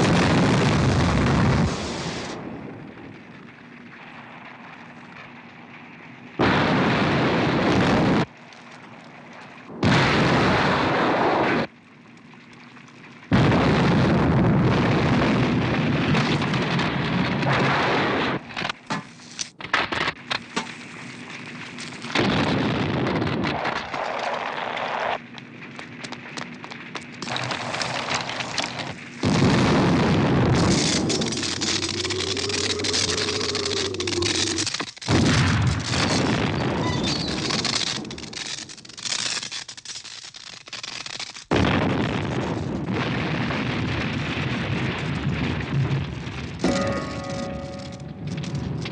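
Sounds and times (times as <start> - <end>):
crackling hissing blasts: 0.0 - 48.9.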